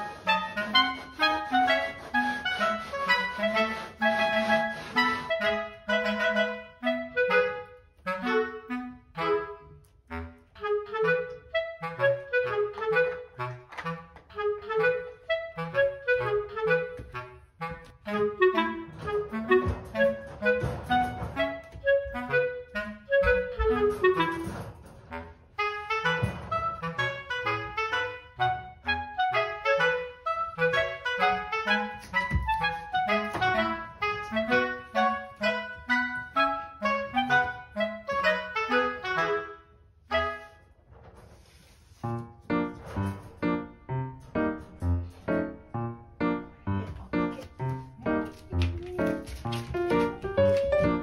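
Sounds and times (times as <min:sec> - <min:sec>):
wind instrument melody: 0:00.0 - 0:40.9, 0:41.9 - 0:51.0.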